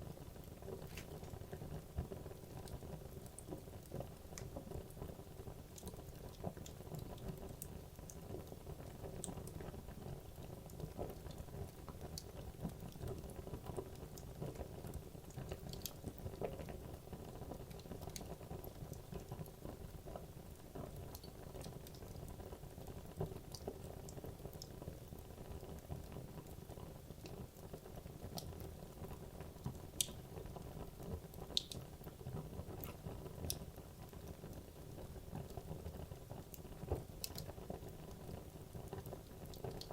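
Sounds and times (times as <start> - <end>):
fire crackles and pops: 0.0 - 39.9.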